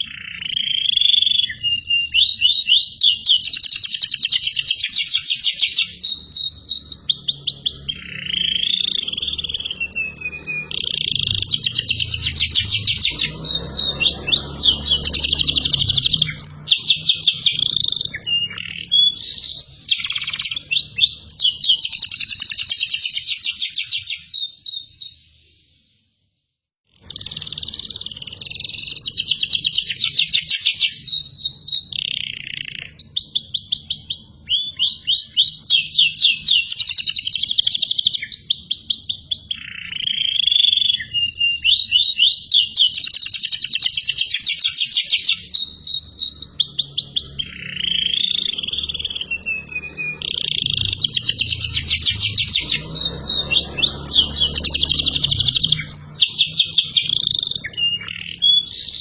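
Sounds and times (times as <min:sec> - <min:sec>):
canary singing trills: 0:00.0 - 0:26.0, 0:26.9 - 0:59.0.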